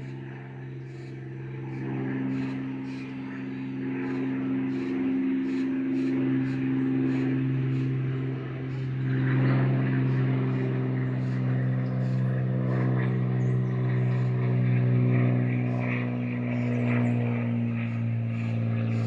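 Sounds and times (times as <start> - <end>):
low mechanical motor hum: 0.0 - 19.0.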